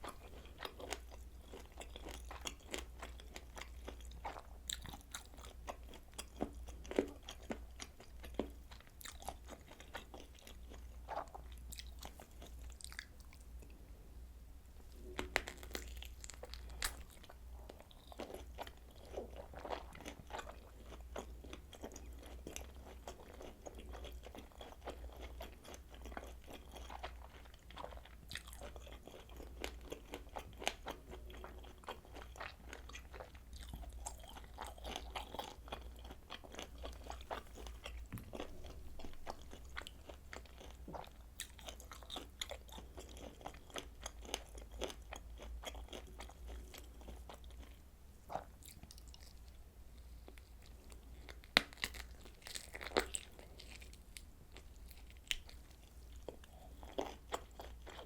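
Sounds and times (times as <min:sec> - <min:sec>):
chewing and biting sausage: 0:00.0 - 0:13.4, 0:15.0 - 0:49.5, 0:50.3 - 0:58.0.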